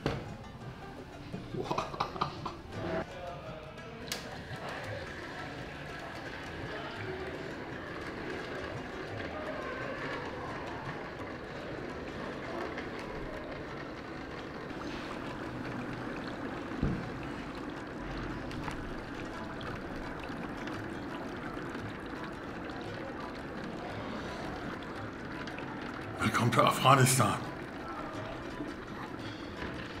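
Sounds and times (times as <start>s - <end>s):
dry ice fizzing and bubbling: 4.1s - 30.0s.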